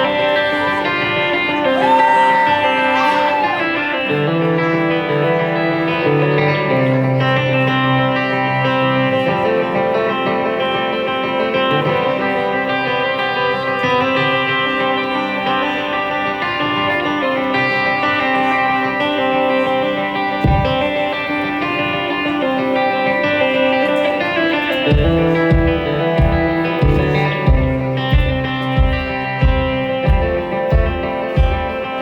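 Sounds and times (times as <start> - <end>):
guitar chords: 0.0 - 32.0.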